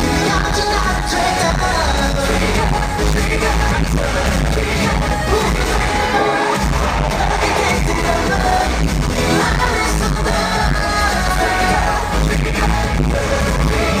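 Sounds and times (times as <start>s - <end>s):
heavy bass line: 0.0s - 14.0s
pop dance track with male singing: 0.0s - 14.0s.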